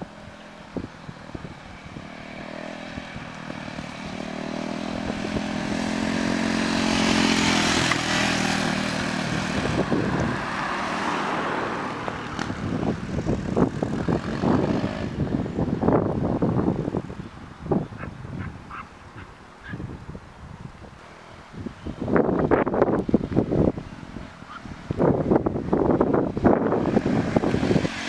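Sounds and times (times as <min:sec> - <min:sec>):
motorcycle engine passing by: 0:00.0 - 0:16.7, 0:21.2 - 0:28.0
car passing: 0:00.0 - 0:19.9, 0:21.0 - 0:28.0
wind gusts on microphone: 0:00.0 - 0:28.0.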